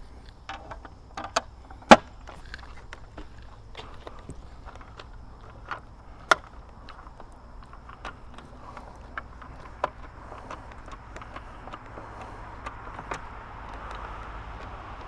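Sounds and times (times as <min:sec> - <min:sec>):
clicks and taps on plastic housing: 0:00.5 - 0:13.3.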